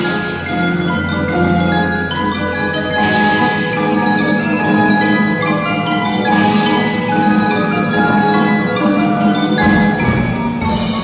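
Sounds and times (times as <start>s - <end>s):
marimbas and xylophone playing: 0.0s - 11.0s.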